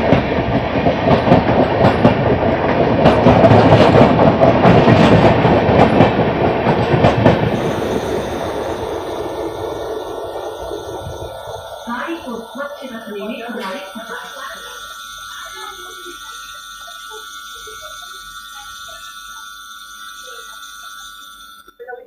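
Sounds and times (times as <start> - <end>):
train coaches rushing past: 0.0 - 21.4.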